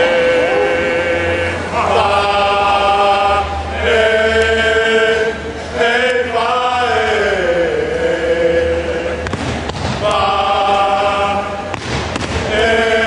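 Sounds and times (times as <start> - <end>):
group chanting in unison: 0.0 - 13.0.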